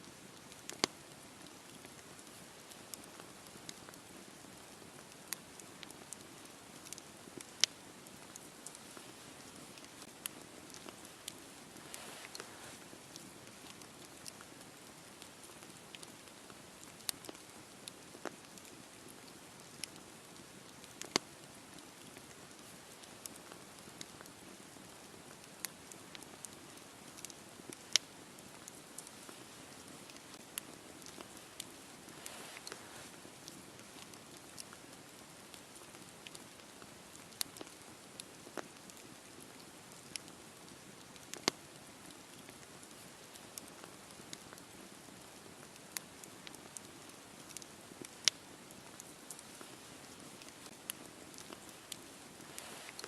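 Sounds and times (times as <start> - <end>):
burning wood crackling and popping: 0.0 - 53.0
campfire hissing: 0.1 - 53.0.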